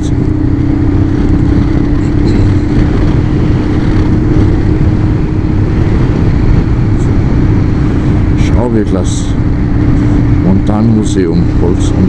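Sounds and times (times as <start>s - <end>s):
motorcycle engine hum: 0.0s - 12.0s
road noise: 0.0s - 12.0s
rushing wind: 0.0s - 12.0s.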